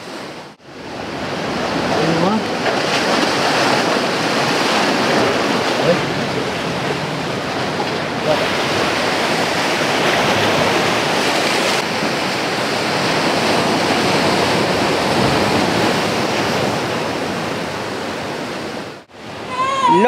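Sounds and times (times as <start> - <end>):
surf washing over rocks: 0.0 - 20.0.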